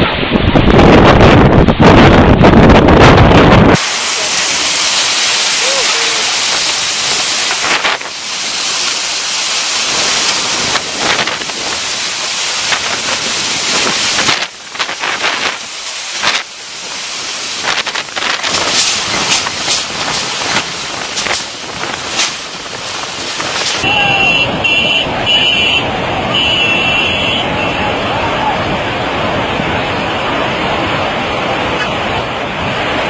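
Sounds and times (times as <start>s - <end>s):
driving rain hissing: 0.0s - 33.0s
storm wind: 0.0s - 33.0s
water rushing: 0.0s - 33.0s.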